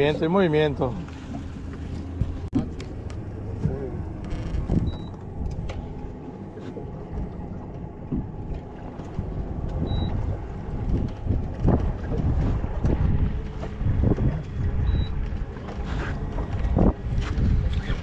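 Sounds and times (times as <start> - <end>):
boat engine low rumble: 0.0 - 18.0.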